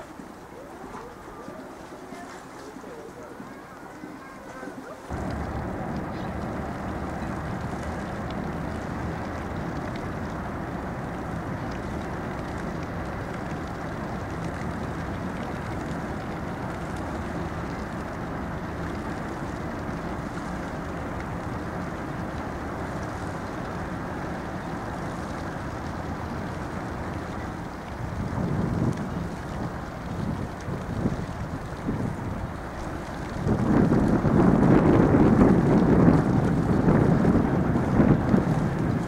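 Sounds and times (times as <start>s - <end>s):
ship diesel engine rumble: 4.7s - 39.0s.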